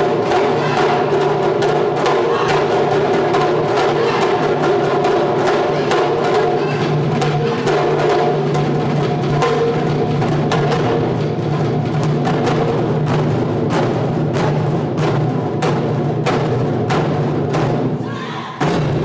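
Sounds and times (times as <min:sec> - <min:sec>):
taiko drums playing fast rhythm: 0:00.0 - 0:19.0.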